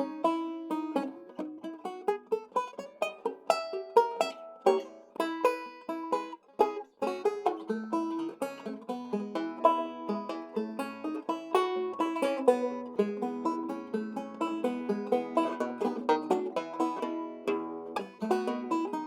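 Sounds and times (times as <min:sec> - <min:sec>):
fingerpicked banjo ragtime piece: 0:00.0 - 0:19.0.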